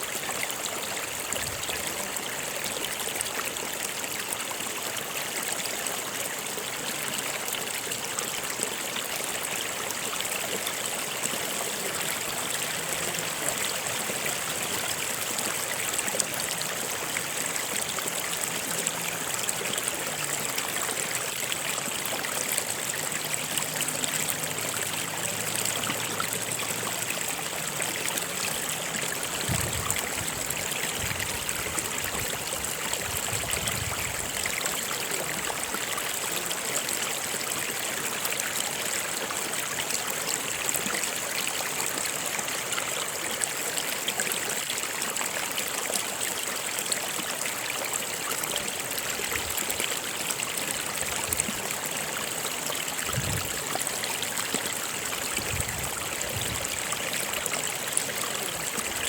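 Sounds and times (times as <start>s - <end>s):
stream of water flowing: 0.0s - 59.0s.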